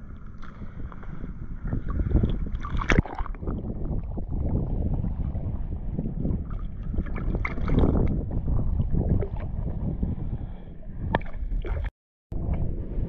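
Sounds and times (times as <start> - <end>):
water lapping and splashing: 0.0 - 11.9
wind buffeting microphone: 0.0 - 13.0.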